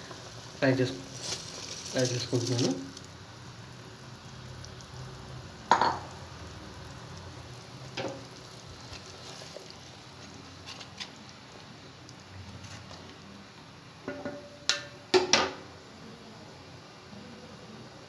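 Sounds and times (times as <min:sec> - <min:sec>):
water boiling in a pot: 0:00.0 - 0:18.0.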